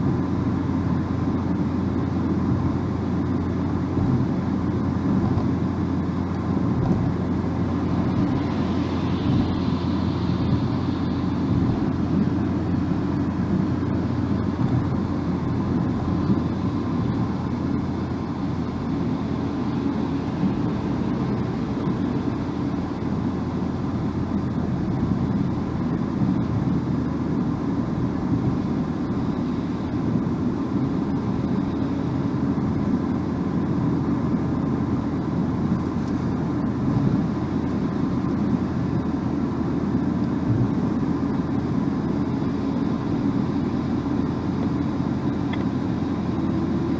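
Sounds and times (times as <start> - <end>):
car engine hum: 0.0 - 46.9.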